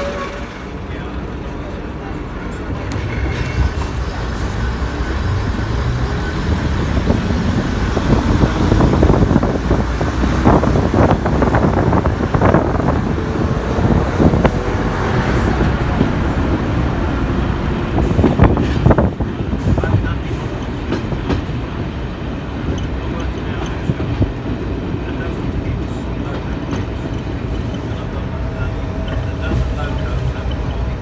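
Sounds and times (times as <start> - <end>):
train diesel engines working: 0.0 - 31.0.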